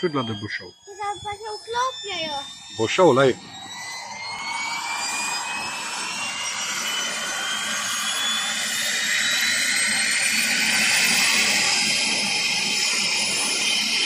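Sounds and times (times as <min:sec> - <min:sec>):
helicopter engine and rotor noise: 0:00.0 - 0:14.0
helicopter turbine whine: 0:00.0 - 0:14.0.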